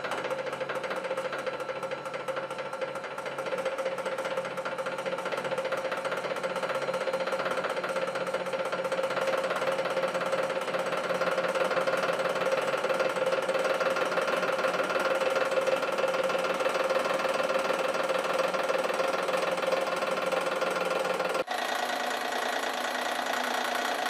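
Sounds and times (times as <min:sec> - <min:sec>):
hydraulic pump humming: 0:00.0 - 0:24.0.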